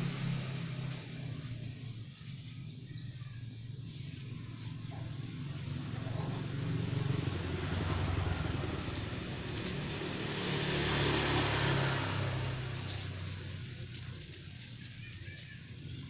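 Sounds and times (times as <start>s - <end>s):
motor vehicle engine running: 0.0s - 16.0s.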